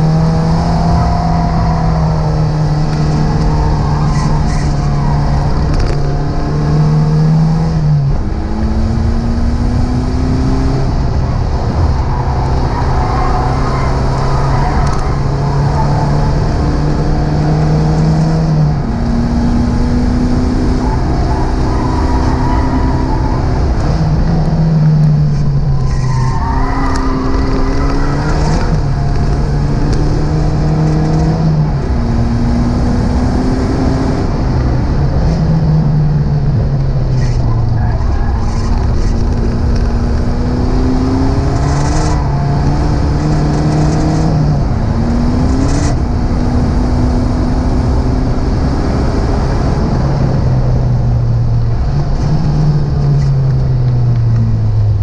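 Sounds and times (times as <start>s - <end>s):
car engine revving hard: 0.0s - 35.8s, 38.0s - 50.4s.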